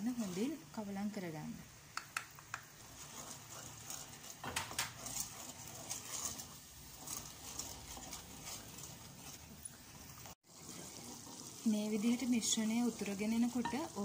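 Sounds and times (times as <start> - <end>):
spatula scraping metal pot: 2.7 - 14.0.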